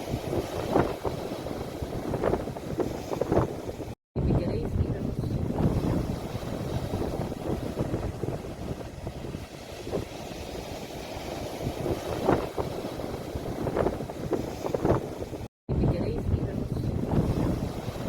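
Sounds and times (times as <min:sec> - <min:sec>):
sea waves washing at shore: 0:00.0 - 0:15.5, 0:16.1 - 0:18.0
wind buffeting microphone: 0:00.0 - 0:18.0.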